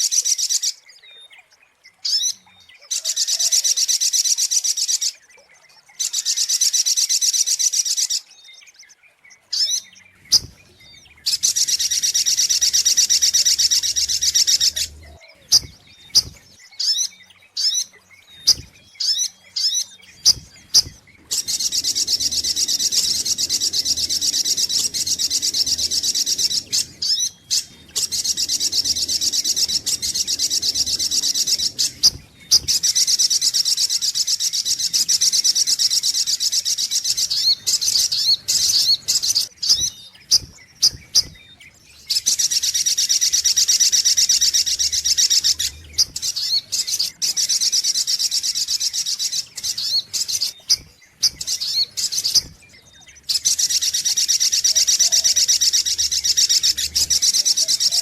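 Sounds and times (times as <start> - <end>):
bird calling in trills and chirps: 0.0 - 58.0.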